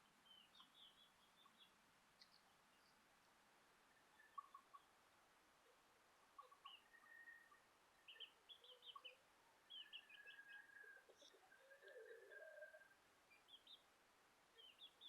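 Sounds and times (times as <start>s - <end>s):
faint bird chirps: 0.0s - 3.1s, 3.9s - 5.0s, 5.6s - 13.9s, 14.5s - 15.0s.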